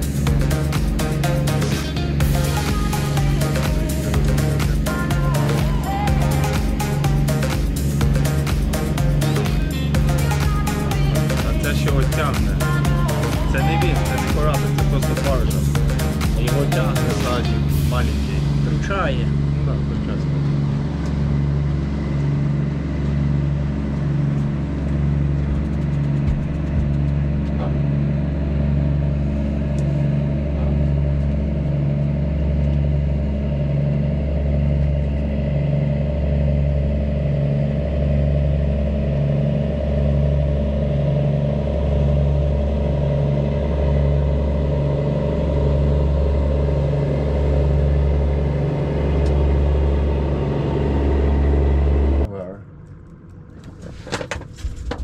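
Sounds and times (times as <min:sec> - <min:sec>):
low throbbing engine drone: 0:00.0 - 0:55.0.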